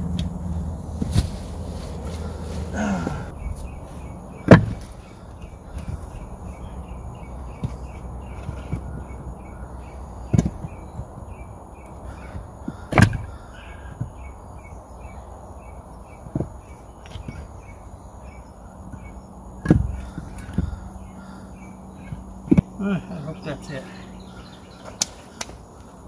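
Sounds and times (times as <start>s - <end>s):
wooden logs knocking together: 0.0s - 14.4s, 15.6s - 18.0s, 18.8s - 23.8s.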